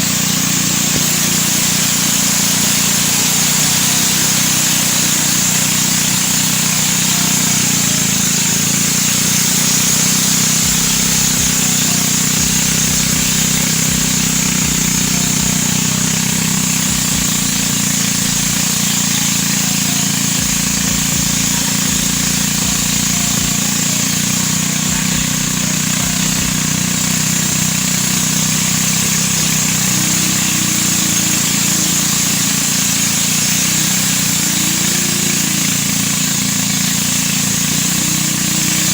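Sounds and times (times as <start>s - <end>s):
engine humming: 0.0s - 38.9s
high hiss: 0.0s - 38.9s.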